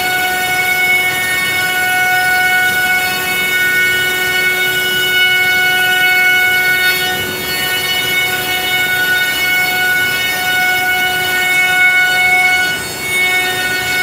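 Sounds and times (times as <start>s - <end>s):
router machine whining: 0.0s - 14.0s.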